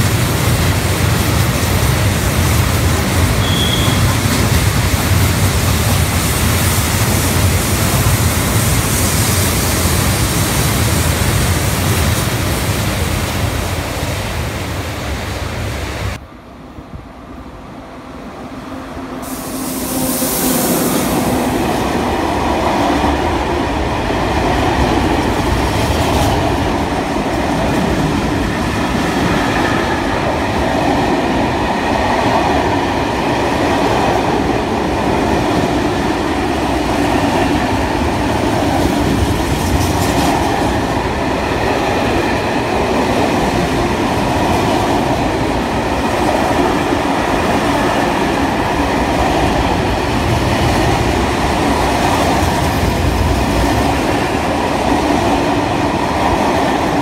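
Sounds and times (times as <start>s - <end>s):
train wheels running on rails: 0.0s - 16.2s, 18.5s - 57.0s.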